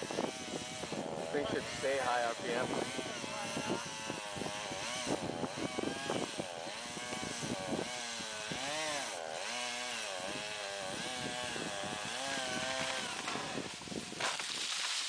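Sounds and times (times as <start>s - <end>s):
chainsaw cutting at high revs: 0.0s - 15.0s.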